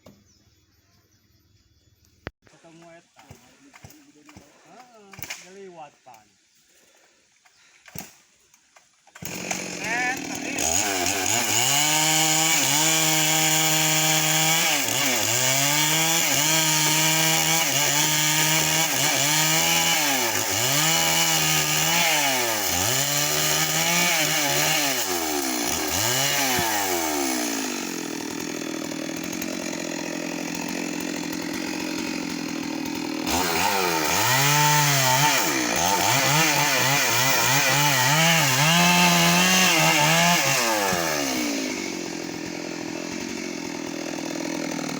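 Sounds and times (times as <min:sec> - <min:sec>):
chainsaw cutting wood: 0:02.8 - 0:06.2, 0:07.9 - 0:44.9.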